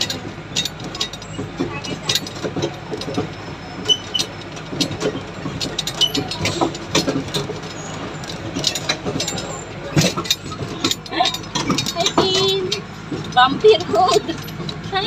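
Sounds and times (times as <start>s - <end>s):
ride car rattling and clacking: 0.0s - 15.0s.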